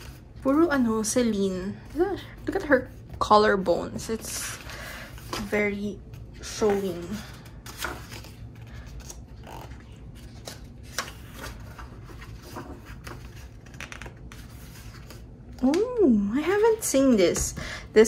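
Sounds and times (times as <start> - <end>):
paper pages rustling: 0.0 - 1.0, 1.8 - 15.8.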